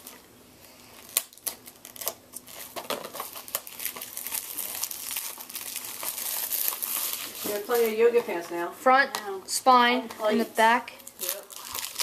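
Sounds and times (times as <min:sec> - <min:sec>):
plastic wrap crinkling: 0:00.0 - 0:08.7, 0:10.3 - 0:12.0.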